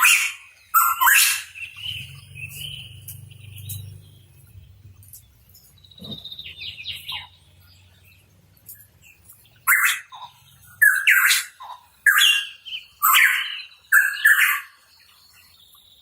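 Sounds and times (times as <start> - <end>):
bird singing: 0.0 - 16.0.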